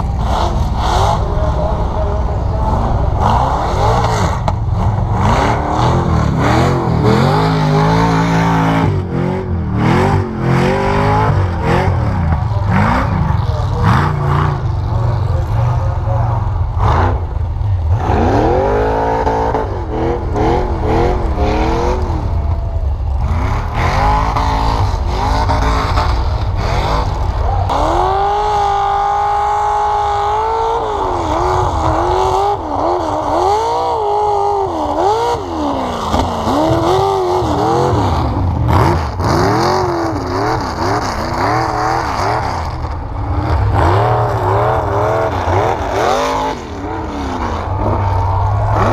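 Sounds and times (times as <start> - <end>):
steady low rumble: 0.0 - 33.4, 37.2 - 48.9
vehicle engines revving: 0.0 - 48.9.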